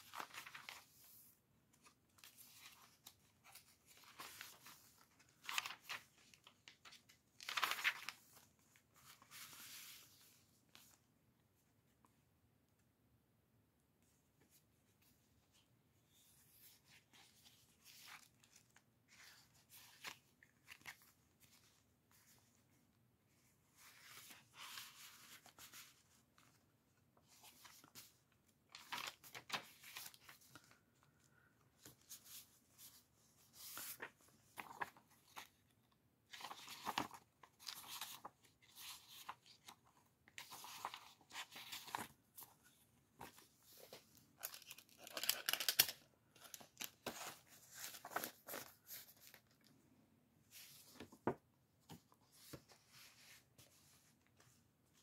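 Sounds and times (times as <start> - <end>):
paper pages rustling: 0.0 - 11.0, 16.1 - 49.8.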